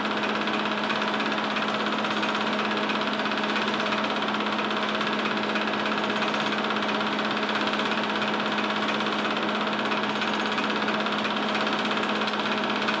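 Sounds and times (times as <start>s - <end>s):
movie projector clattering: 0.0s - 13.0s.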